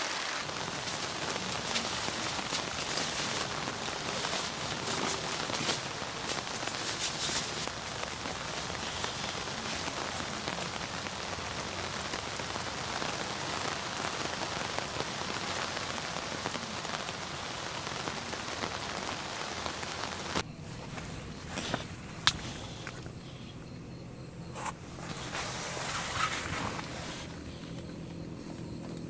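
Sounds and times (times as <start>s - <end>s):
steady rain falling: 0.0s - 23.3s, 24.9s - 29.0s.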